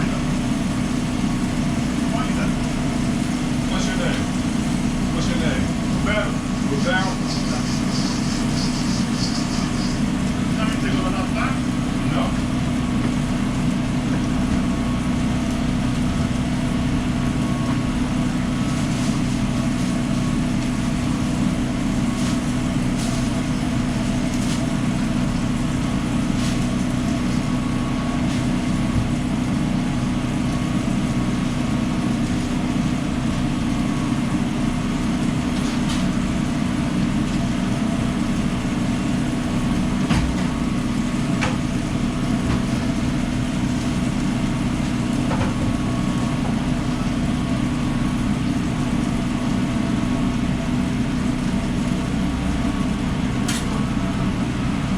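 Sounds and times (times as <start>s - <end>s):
machinery humming: 0.0s - 54.9s.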